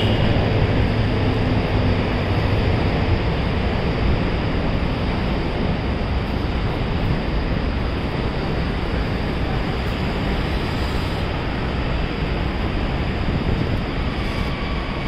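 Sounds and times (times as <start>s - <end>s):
city traffic roar: 0.0s - 15.0s.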